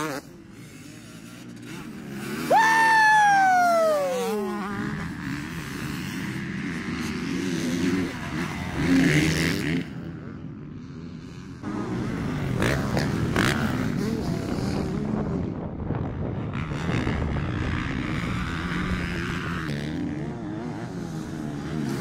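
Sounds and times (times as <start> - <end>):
distant motorbikes running: 0.0 - 22.0
motocross bike passing at high revs: 0.0 - 22.0.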